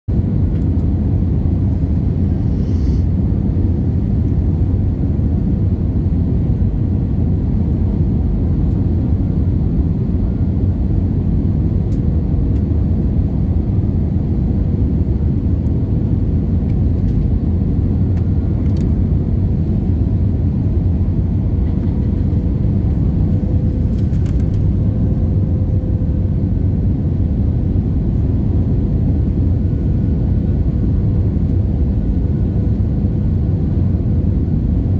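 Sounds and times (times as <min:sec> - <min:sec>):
airplane cabin rumble: 0:00.1 - 0:34.9.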